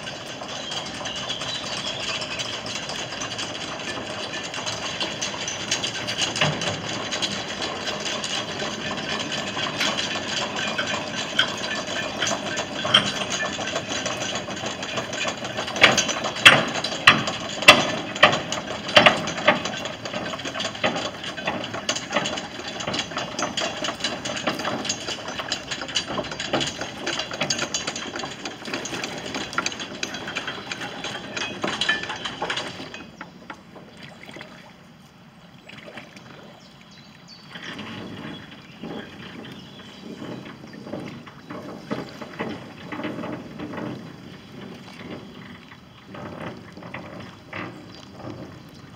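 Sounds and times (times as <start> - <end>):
loud chain clanks: 0.0 - 33.3, 37.6 - 48.8.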